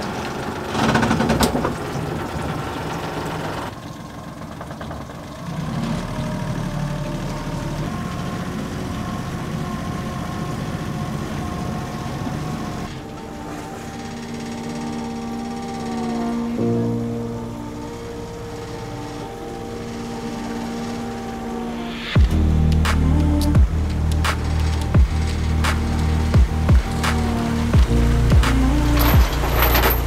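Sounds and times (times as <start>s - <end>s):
outboard motor humming: 0.0s - 30.0s.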